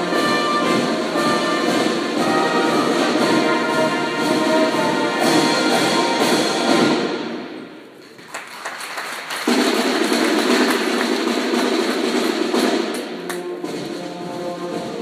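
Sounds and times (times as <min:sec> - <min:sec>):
marching band brass: 0:00.0 - 0:07.9, 0:09.2 - 0:15.0.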